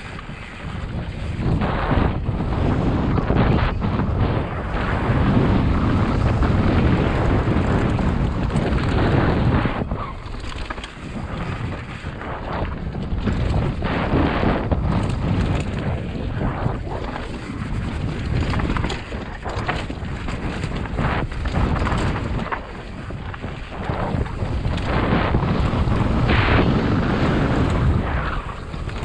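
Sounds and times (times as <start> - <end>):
mountain bike rumbling on dirt: 0.0 - 29.0
wind buffeting microphone: 0.0 - 29.0.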